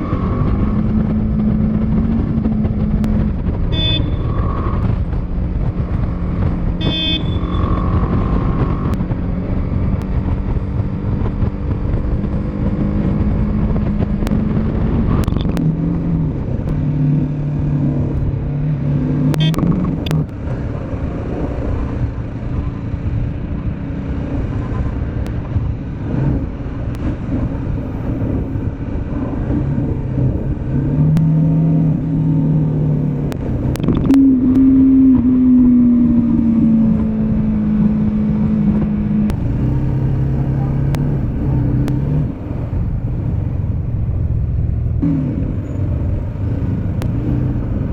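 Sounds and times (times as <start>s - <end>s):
motorcycle engine running: 0.0s - 47.9s
road and wind noise: 0.0s - 47.9s.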